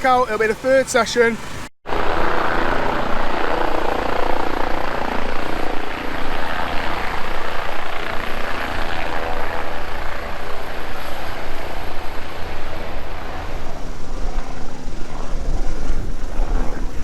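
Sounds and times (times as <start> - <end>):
helicopter rotor and engine: 0.0 - 17.0.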